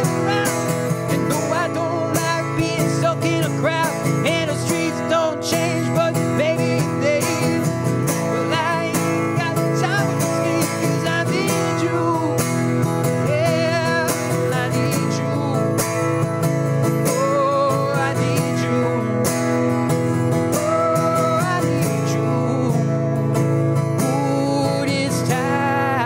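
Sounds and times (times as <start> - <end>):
person singing: 0.0 - 16.0, 17.0 - 19.8, 20.4 - 23.3, 23.9 - 26.0
acoustic guitar strumming: 0.0 - 26.0.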